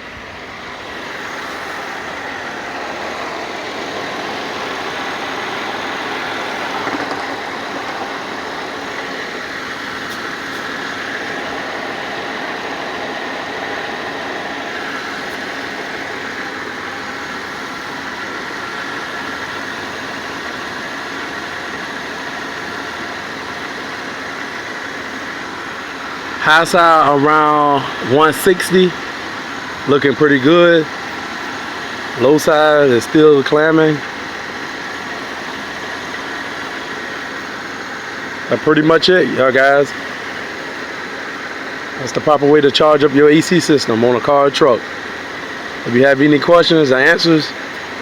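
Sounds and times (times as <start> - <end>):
car engine idling: 0.0 - 42.5
air conditioning running: 0.0 - 48.0.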